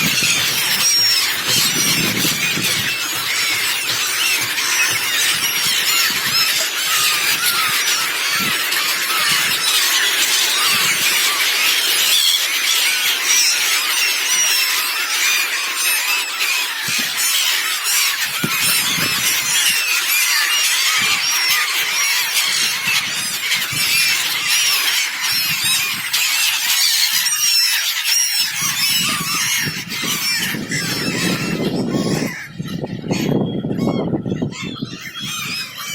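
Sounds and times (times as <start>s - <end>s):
seabirds calling: 0.0s - 35.9s.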